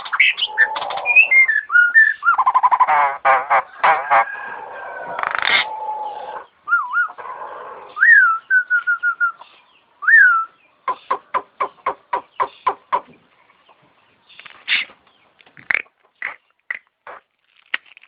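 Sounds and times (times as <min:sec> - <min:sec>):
starling singing: 0:00.0 - 0:16.4.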